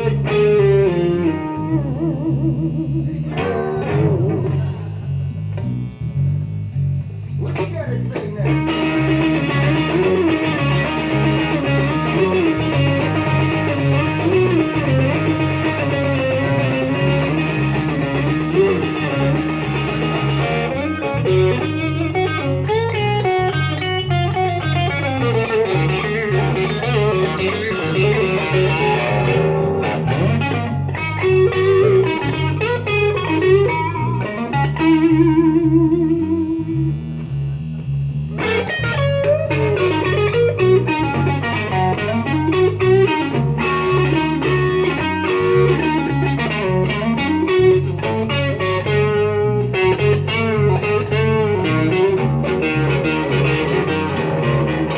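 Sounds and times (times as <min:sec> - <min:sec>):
electric bass riff: 0:00.0 - 0:54.9
electric guitar lead lines: 0:00.0 - 0:54.9.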